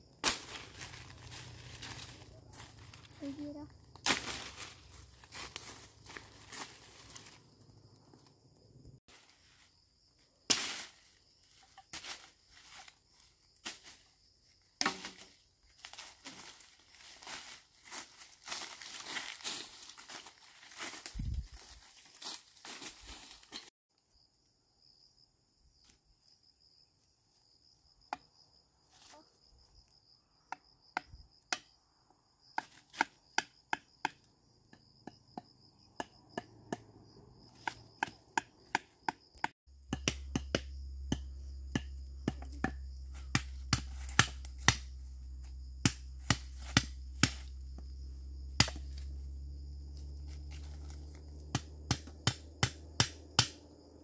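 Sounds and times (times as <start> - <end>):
high insect trill: 0.0 - 54.0.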